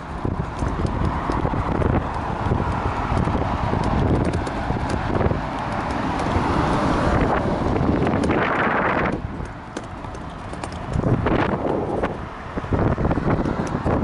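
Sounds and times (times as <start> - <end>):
scooter knocking and rattling: 0.0 - 14.0
wind rushing over microphone: 0.0 - 14.0.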